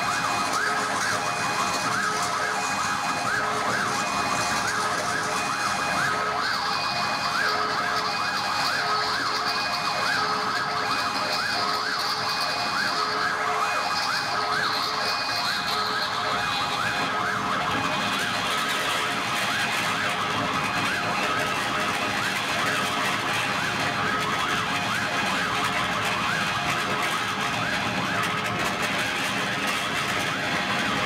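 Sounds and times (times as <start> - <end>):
siren-like synth tones sweeping: 0.0 - 31.0.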